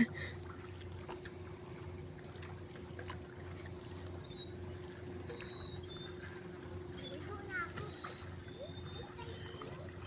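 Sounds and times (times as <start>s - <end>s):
boat motor droning: 0.0s - 10.0s.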